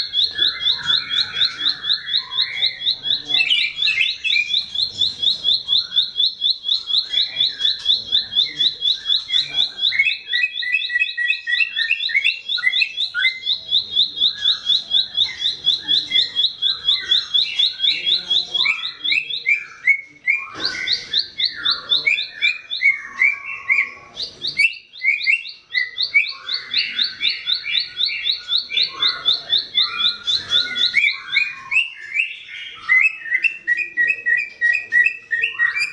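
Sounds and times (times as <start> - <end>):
bird singing rapid high notes: 0.0 - 35.9
lower bird chirps: 0.0 - 35.9.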